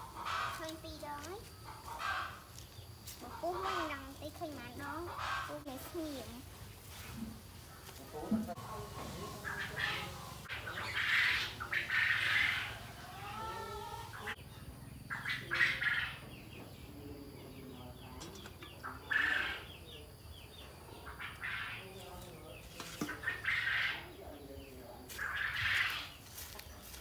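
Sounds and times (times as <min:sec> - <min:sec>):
birds calling and chirping: 0:00.0 - 0:27.0.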